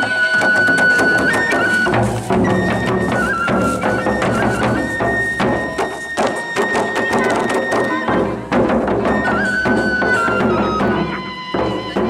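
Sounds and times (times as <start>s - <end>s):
bamboo flute long high notes: 0.0s - 12.0s
barrel drums beating: 0.0s - 12.0s.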